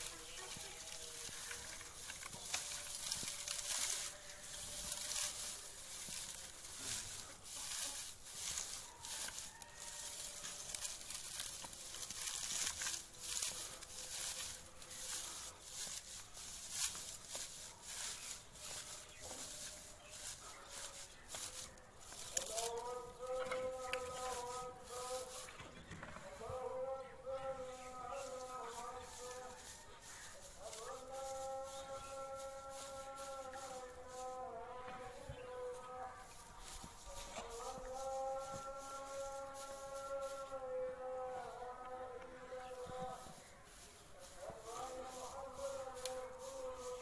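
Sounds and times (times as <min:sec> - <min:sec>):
dry grass rustling and crackling: 0:00.0 - 0:47.0.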